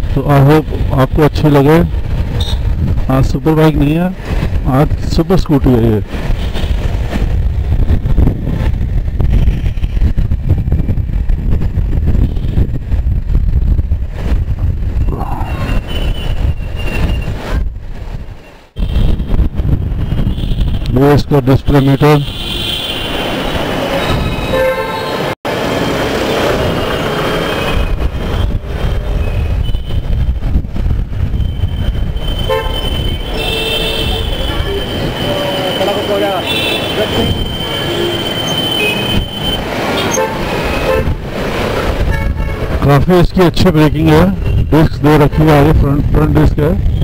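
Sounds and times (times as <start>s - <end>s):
wind rumble on microphone: 0.0s - 22.6s, 25.5s - 35.6s, 37.1s - 47.0s
city traffic: 0.0s - 47.0s.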